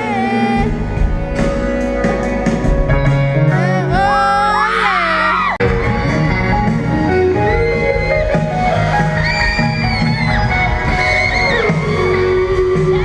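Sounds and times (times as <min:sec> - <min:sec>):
faint crowd: 0:00.0 - 0:13.0
live band music with guitar: 0:00.0 - 0:13.0.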